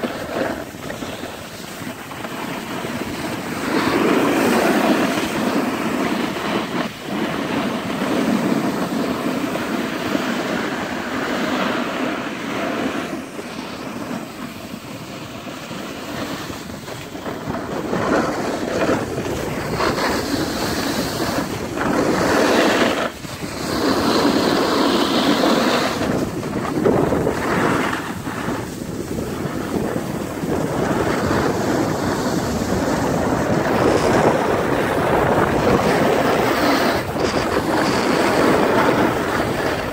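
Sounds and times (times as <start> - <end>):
skis scraping over snow: 0.0 - 39.9
wind over microphone: 0.0 - 39.9.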